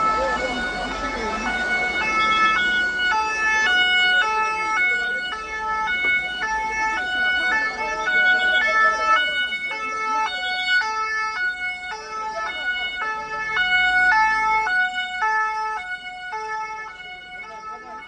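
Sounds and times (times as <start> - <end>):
two-tone vehicle siren: 0.0 - 18.0.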